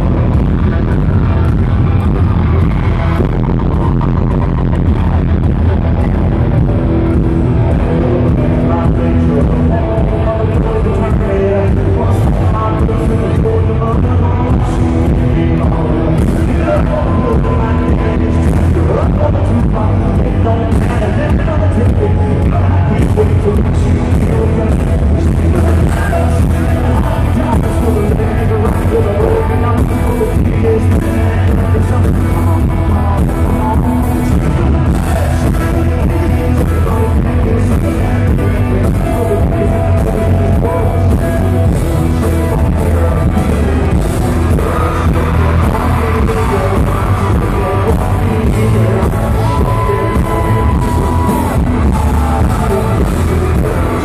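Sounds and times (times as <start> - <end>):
live country-rock band: 0.0 - 54.0
man singing into a microphone: 0.0 - 54.0.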